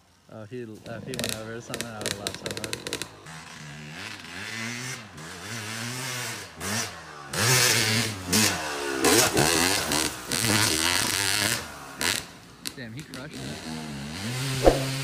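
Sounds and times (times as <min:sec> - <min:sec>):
dirt bike engine revving: 0:00.9 - 0:15.0.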